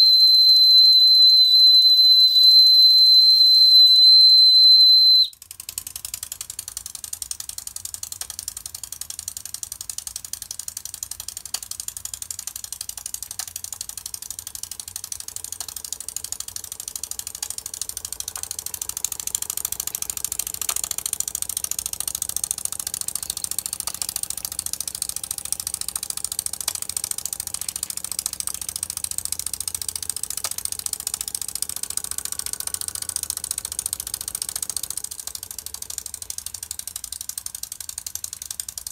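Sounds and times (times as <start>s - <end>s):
steam engine ticking clatter: 5.4s - 38.9s.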